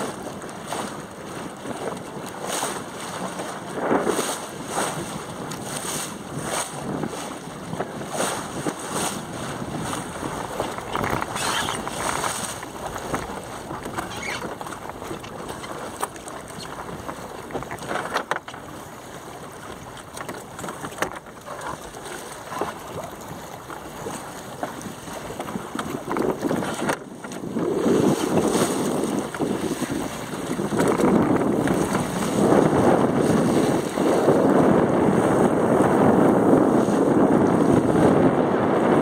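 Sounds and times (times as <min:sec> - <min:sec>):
water washing past hull: 0:00.0 - 0:39.0
wind over microphone: 0:00.0 - 0:39.0.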